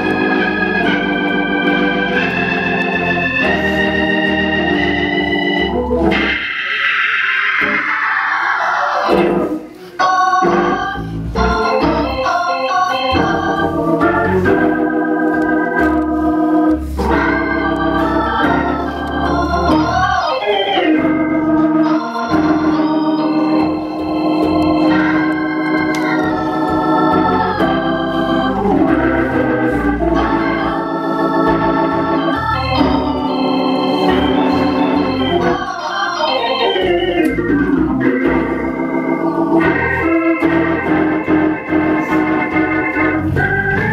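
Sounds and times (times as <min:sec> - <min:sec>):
organ music: 0:00.0 - 0:43.9.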